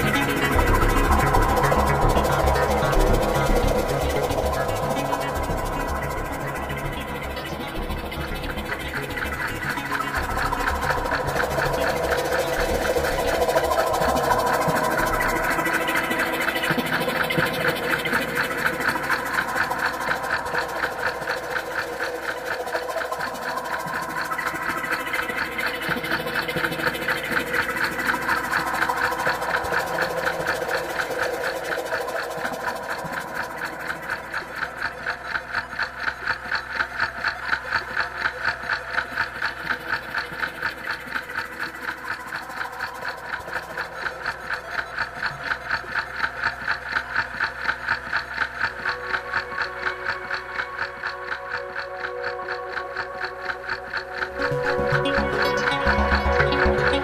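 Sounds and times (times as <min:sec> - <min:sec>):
pulsing mechanical drone: 0:00.0 - 0:57.0.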